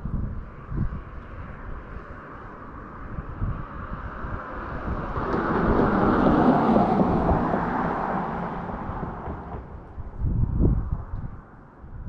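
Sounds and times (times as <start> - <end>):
vehicle driving past: 0.7 - 10.4.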